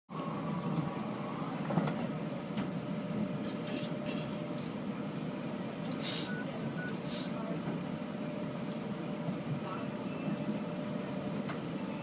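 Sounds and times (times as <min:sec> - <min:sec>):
train running rumble: 0:00.1 - 0:12.0.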